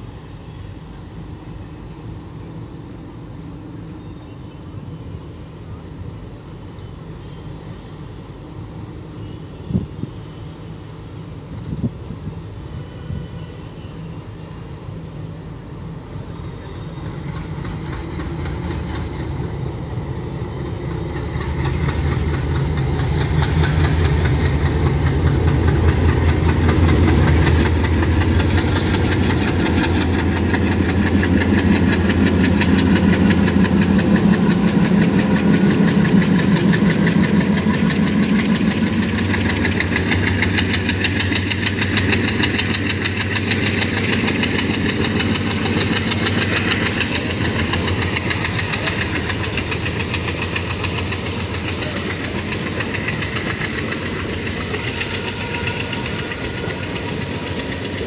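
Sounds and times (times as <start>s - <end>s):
diesel locomotive engine chugging: 0.0s - 58.0s.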